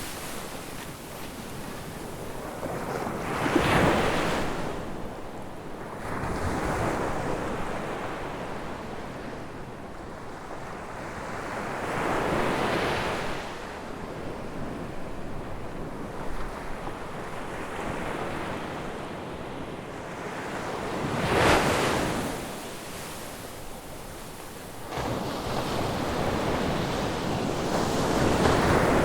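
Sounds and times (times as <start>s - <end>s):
ocean waves breaking on beach: 0.0s - 29.0s.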